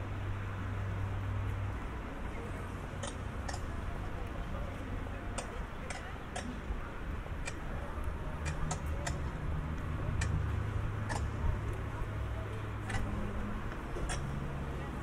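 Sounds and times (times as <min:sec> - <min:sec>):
low city rumble: 0:00.0 - 0:15.0
footsteps on wet pavement: 0:00.7 - 0:07.0, 0:07.6 - 0:15.0.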